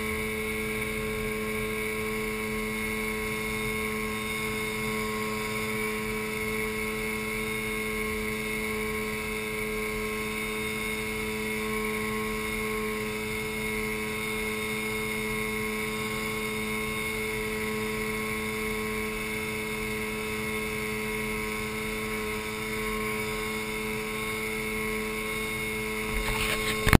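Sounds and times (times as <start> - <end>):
outboard motor droning: 0.0 - 26.9.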